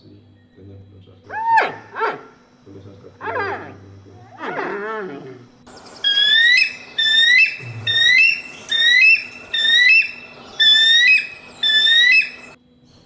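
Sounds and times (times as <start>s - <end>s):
bird calling: 1.2s - 2.4s, 3.1s - 12.6s.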